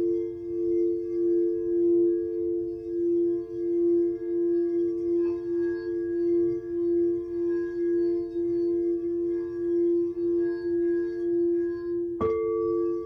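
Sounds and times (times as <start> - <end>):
singing bowl ringing: 0.0 - 13.0.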